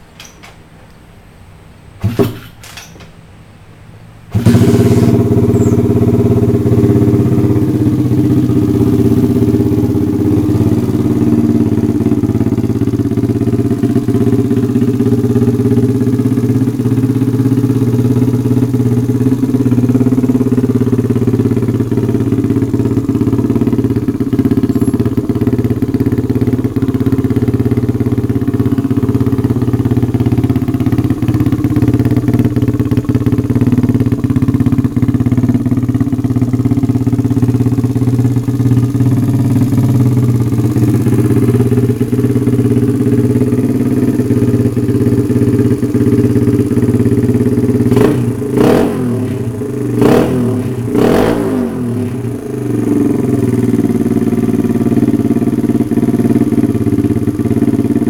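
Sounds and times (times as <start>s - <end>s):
small motorbike engine idling: 4.3s - 58.0s.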